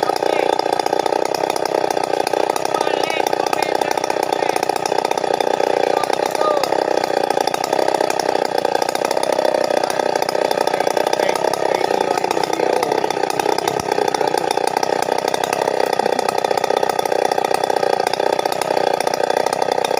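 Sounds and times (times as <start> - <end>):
chainsaw sawing through wood: 0.0 - 19.9.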